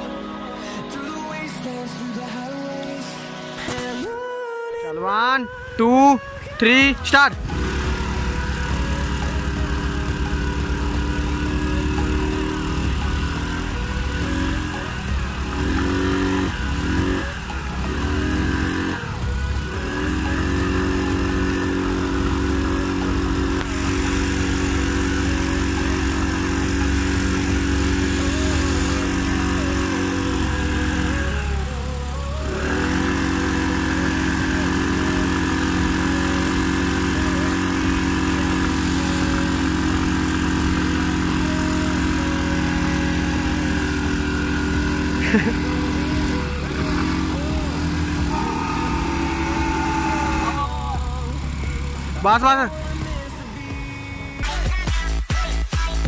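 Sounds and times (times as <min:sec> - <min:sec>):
scooter engines at high revs: 0:05.7 - 0:55.0.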